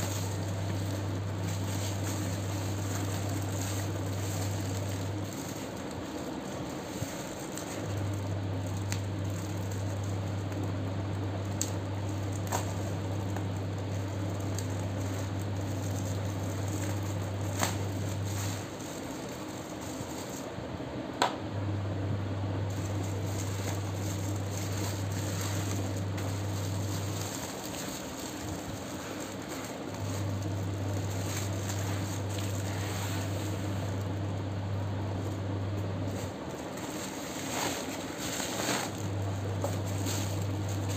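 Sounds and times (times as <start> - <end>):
bubble wrap crinkling: 0.0 - 20.6, 22.6 - 40.9
steady low hum: 0.0 - 40.9.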